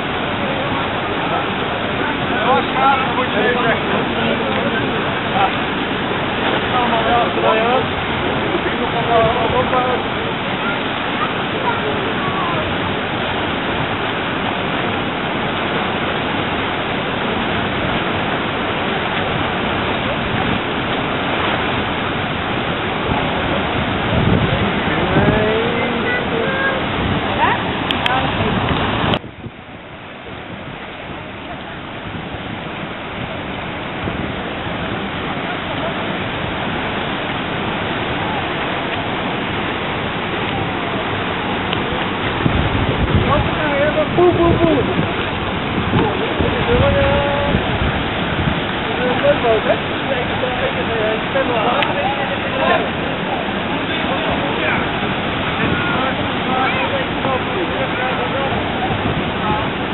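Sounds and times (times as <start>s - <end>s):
whitewater rushing: 0.0s - 59.9s.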